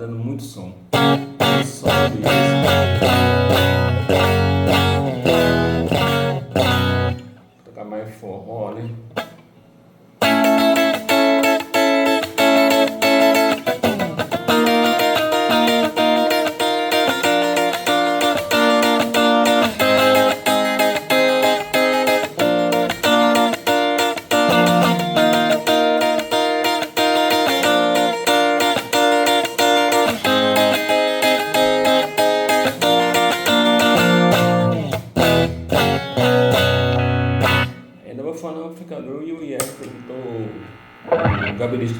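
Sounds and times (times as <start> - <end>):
electric guitar riff: 0.9 - 7.5, 9.1 - 38.0, 39.5 - 41.9.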